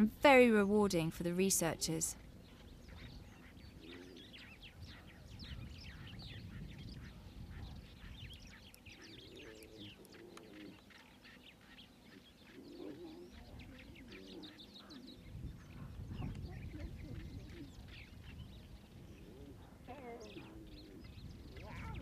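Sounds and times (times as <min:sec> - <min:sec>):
small birds chirping: 0:00.0 - 0:22.0
soft lower bird calls: 0:00.0 - 0:22.0.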